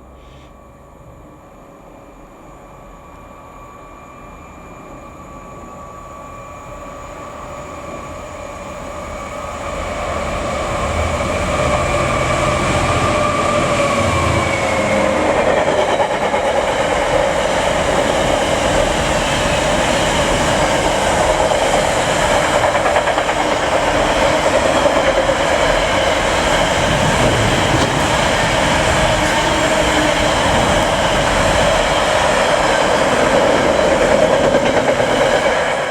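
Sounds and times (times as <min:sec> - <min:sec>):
train passing on rails: 0:00.0 - 0:35.9.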